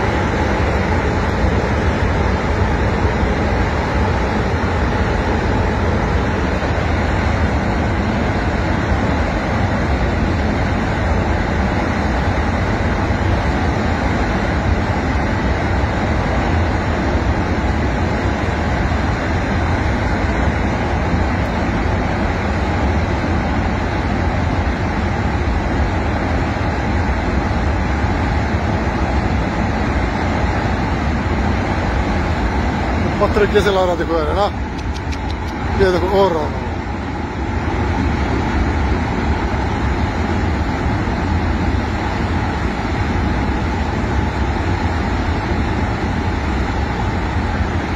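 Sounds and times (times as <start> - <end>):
rumbling rush of muddy water: 0.0 - 47.9.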